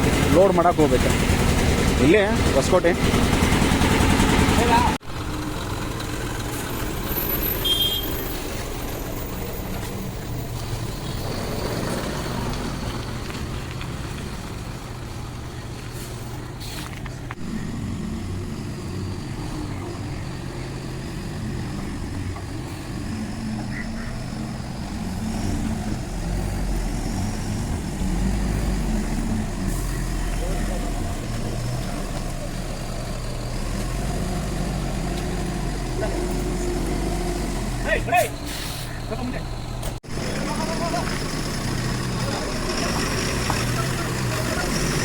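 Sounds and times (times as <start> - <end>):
diesel truck engine humming: 0.0 - 45.0
road vehicle noise: 0.0 - 45.0.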